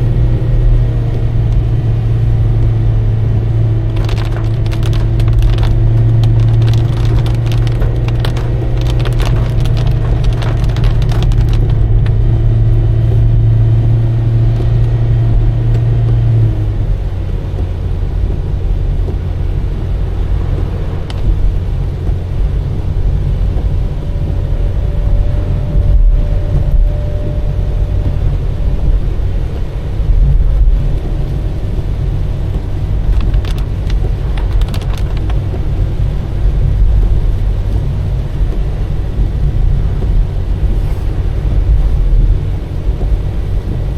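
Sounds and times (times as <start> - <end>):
car engine and tyres on wet road: 0.0 - 43.9.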